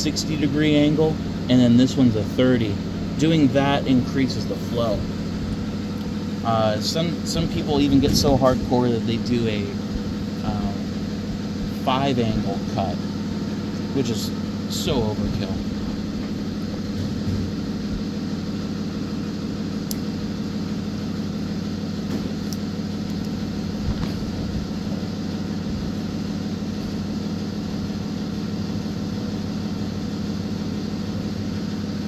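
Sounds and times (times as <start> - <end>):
electric motor hum: 0.0 - 32.0.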